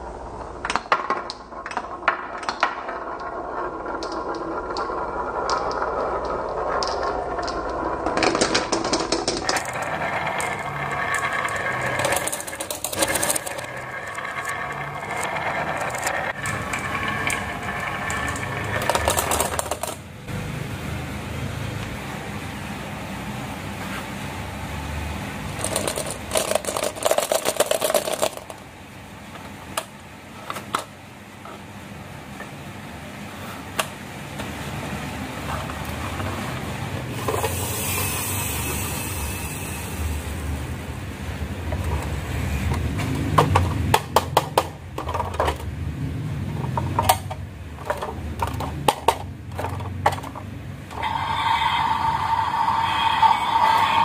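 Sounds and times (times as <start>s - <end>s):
marbles rolling and clattering: 0.0s - 20.3s, 25.3s - 29.9s, 34.4s - 40.9s, 41.6s - 54.0s.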